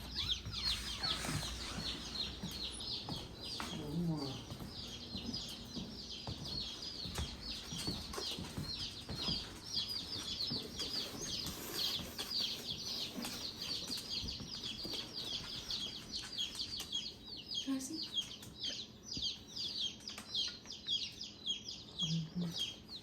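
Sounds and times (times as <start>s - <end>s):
baby chicks peeping: 0.0s - 23.0s.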